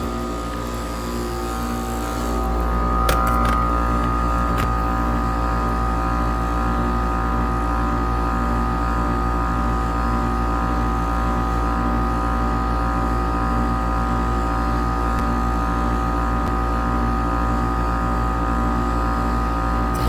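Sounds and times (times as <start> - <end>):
heat pump compressor and fan hum: 0.0 - 20.0.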